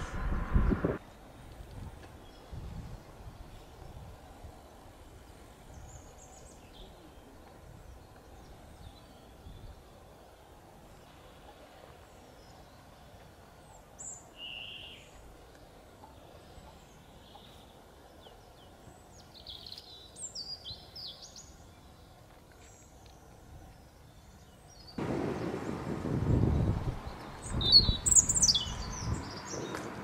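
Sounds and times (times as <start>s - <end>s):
outdoor background noise: 0.0s - 30.0s
songbirds chirping: 0.0s - 30.0s.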